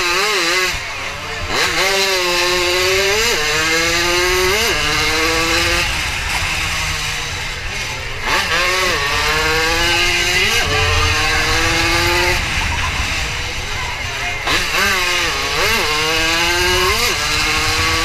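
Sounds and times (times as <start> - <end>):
motorcycle engine at full throttle: 0.0 - 18.0.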